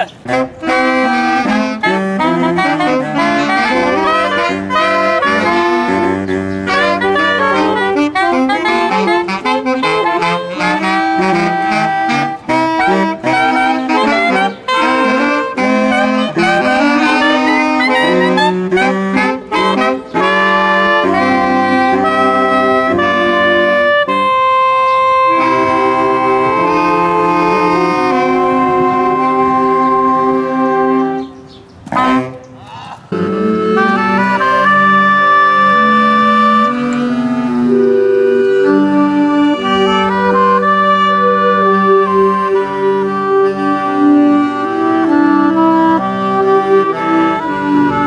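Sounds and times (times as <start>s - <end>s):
saxophone ensemble playing: 0.0s - 48.0s.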